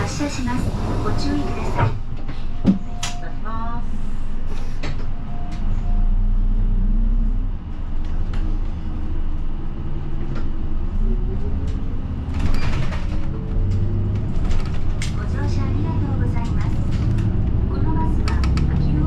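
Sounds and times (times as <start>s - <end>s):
road rumble: 0.0s - 2.2s, 4.3s - 19.0s
bus engine accelerating: 0.0s - 2.4s, 4.0s - 19.0s.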